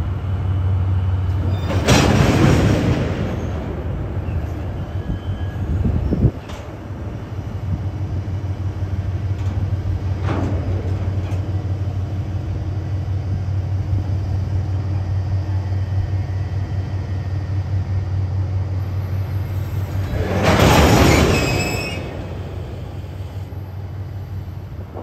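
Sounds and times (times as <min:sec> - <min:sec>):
diesel locomotive engine droning: 0:00.0 - 0:25.0.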